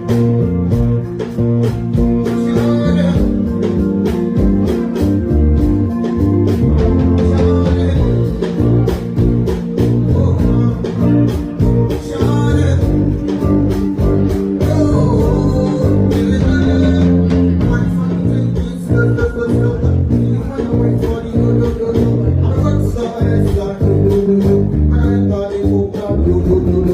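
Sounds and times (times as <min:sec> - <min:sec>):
live band playing afrobeats: 0:00.0 - 0:26.9.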